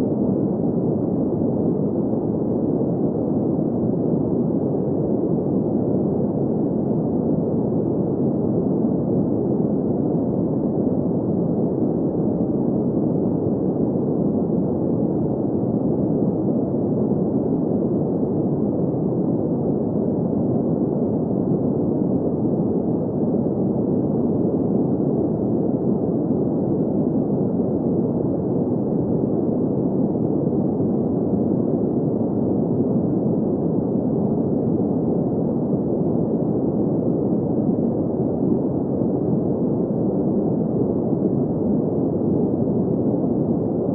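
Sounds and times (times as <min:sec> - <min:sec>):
muffled low hiss: 0:00.0 - 0:43.9.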